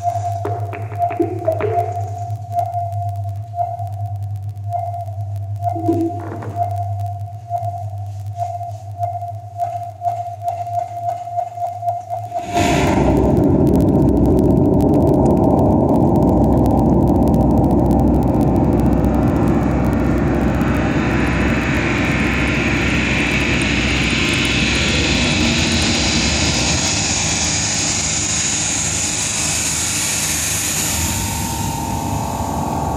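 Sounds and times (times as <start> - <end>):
high whine rising in pitch: 0.0 - 11.2, 12.2 - 32.9.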